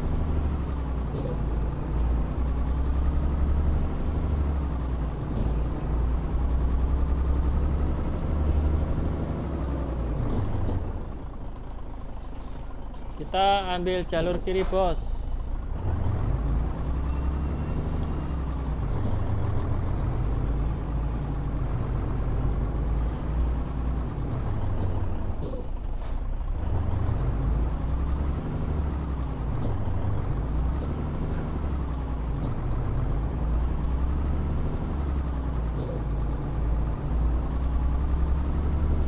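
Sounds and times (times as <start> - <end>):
truck diesel engine rumbling: 0.0 - 39.0.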